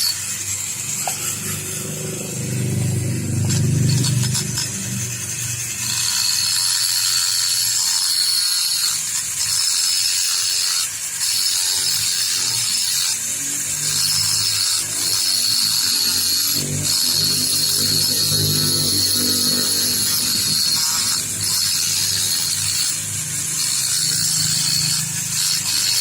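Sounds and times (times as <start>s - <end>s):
power tool whining: 0.0s - 26.0s.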